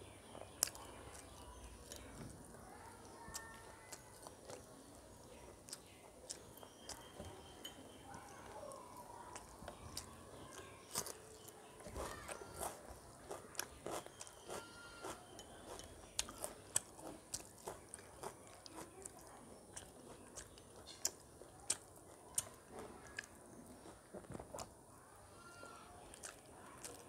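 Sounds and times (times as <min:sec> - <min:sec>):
person chewing food: 0:00.0 - 0:24.9, 0:25.7 - 0:27.0.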